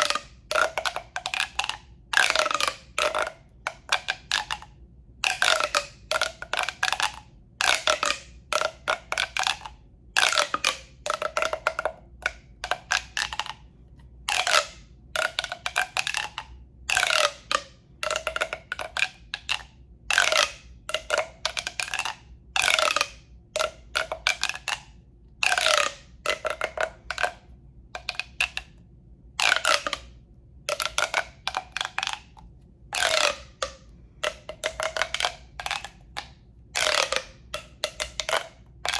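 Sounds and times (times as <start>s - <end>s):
hollow tapping on a tube: 0.0s - 28.8s, 29.4s - 38.9s.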